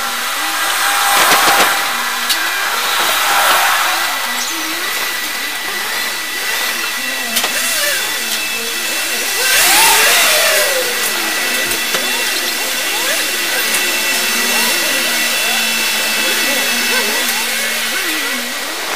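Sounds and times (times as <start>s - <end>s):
faint wavering squeals: 0.0s - 18.8s
loud steady hiss: 0.0s - 18.9s
thin high whine: 0.0s - 18.9s.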